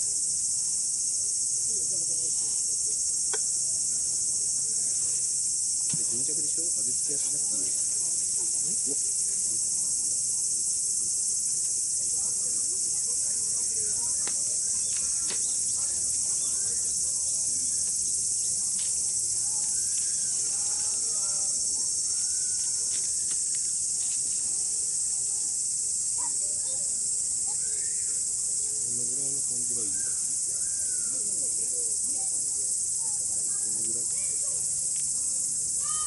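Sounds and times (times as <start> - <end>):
crickets trilling: 0.0 - 36.0.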